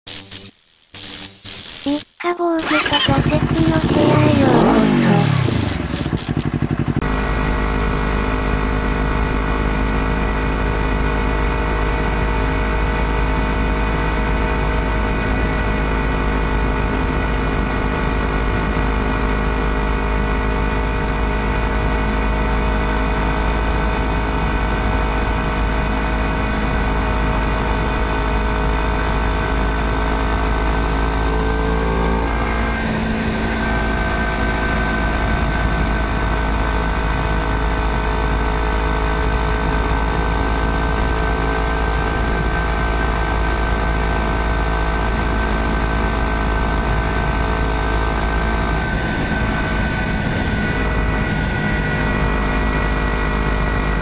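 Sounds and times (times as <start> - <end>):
motorcycle engine running: 2.6 - 54.0.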